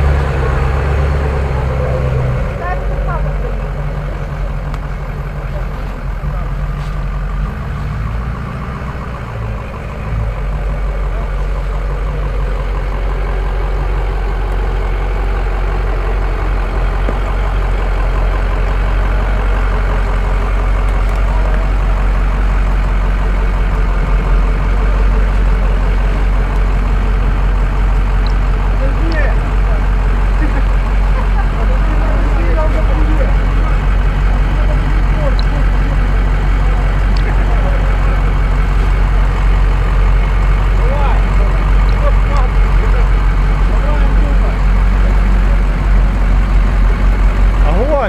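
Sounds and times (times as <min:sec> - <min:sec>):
pickup truck engine at low revs: 0:00.0 - 0:48.0.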